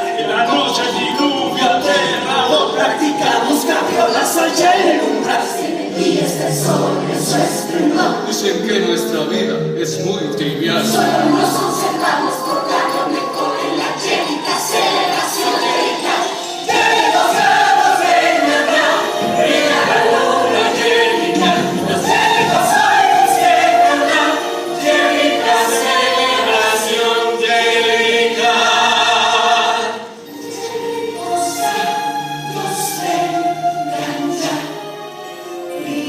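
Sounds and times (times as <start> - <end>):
ensemble singing in chorus: 0.0 - 8.4, 10.6 - 36.0
orchestra playing: 0.0 - 36.0.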